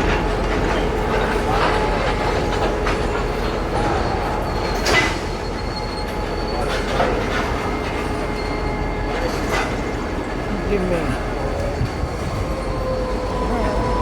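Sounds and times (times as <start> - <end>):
railroad cars rumbling: 0.0 - 14.0
train wheels squealing: 0.0 - 14.0.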